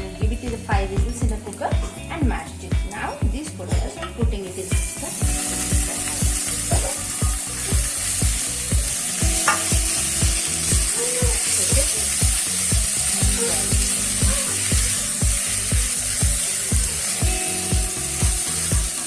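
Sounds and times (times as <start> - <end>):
background music with steady beat: 0.0 - 19.0
food sizzling in a pan: 0.5 - 19.0.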